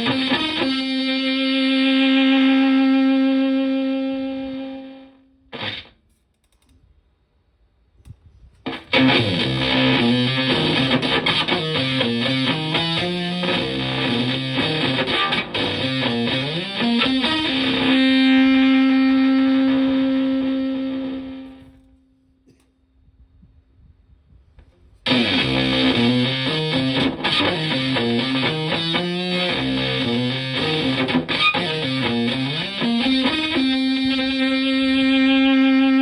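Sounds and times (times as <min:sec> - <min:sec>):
fuzzed electric guitar: 0:00.0 - 0:06.1, 0:08.6 - 0:22.6, 0:25.0 - 0:36.0.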